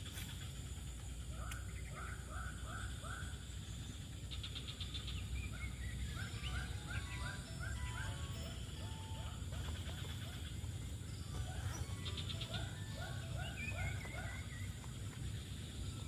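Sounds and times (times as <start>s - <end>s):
birds calling: 0.0s - 16.0s
low background rumble: 0.0s - 16.0s
bird trill: 0.1s - 16.0s.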